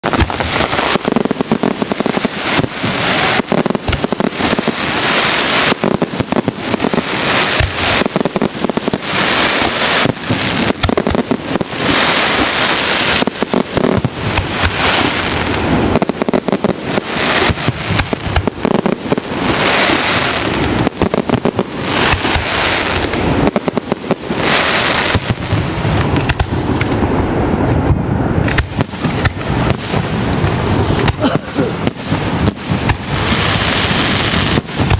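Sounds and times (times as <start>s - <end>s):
fireworks bangs: 0.0s - 34.9s
fireworks crackling and hissing: 0.0s - 34.9s.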